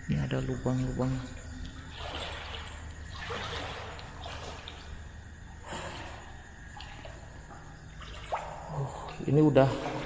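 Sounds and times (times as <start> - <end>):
footsteps sloshing through mud: 1.1 - 10.0.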